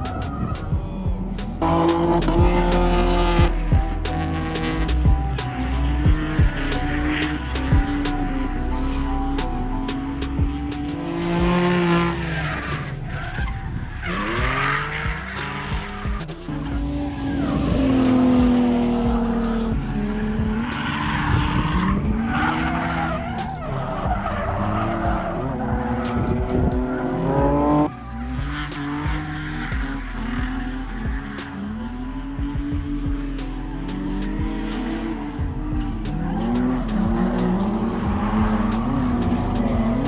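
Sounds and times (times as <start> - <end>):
music with steady beat: 0.0 - 8.4, 9.4 - 40.0
car engine revving: 0.0 - 40.0
tires squealing: 0.0 - 40.0.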